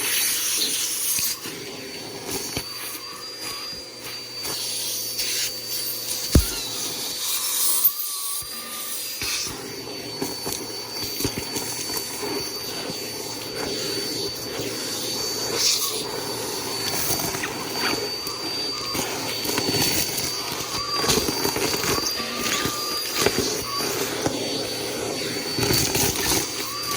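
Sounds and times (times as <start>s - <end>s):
vacuum cleaner motor whining: 0.0s - 26.9s.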